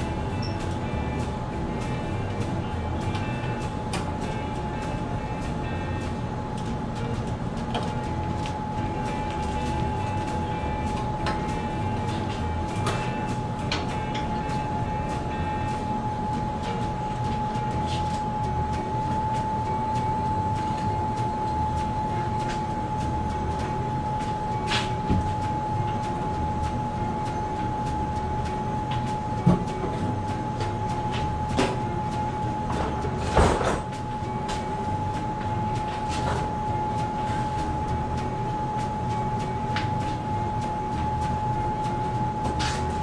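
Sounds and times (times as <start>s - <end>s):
air handling unit whine and hum: 0.0s - 43.0s.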